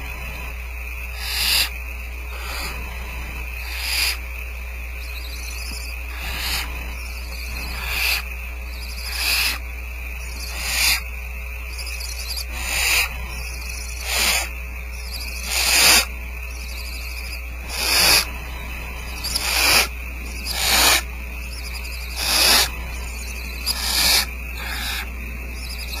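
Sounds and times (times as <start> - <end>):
low electrical hum: 0.0 - 26.0
owl chicks rasping begging calls: 0.0 - 26.0.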